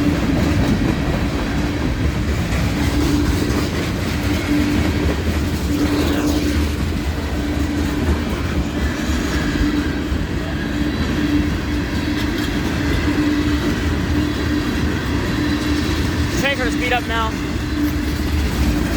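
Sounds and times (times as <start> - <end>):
train cars rumbling past: 0.0 - 18.9.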